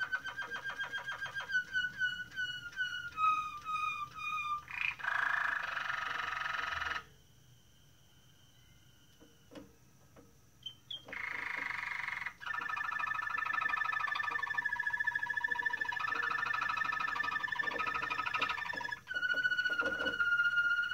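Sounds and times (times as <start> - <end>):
canary singing trills: 0.0 - 9.7, 10.6 - 20.9.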